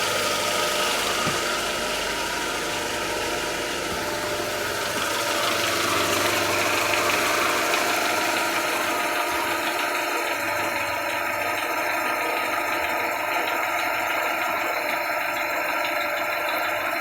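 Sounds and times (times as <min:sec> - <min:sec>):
car engine running: 0:00.0 - 0:17.0
light engine knock: 0:00.0 - 0:17.0.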